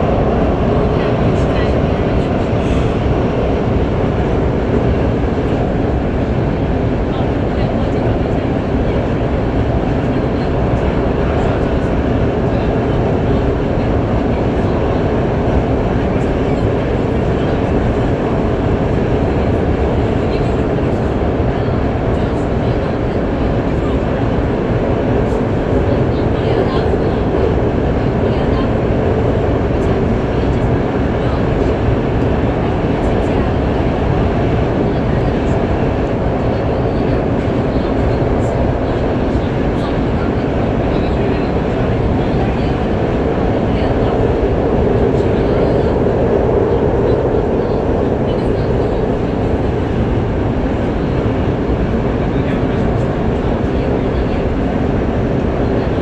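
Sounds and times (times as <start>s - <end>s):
metro train rumbling in tunnel: 0.0s - 56.0s.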